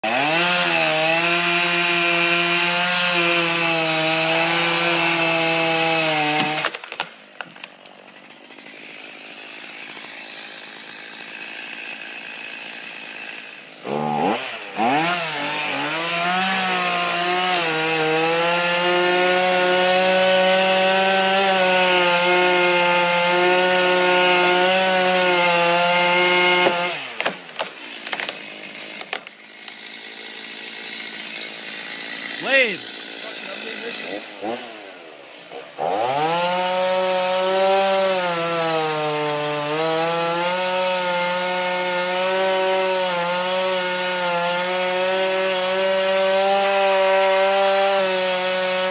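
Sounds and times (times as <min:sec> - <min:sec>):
chainsaw engine revving: 0:00.0 - 0:48.9.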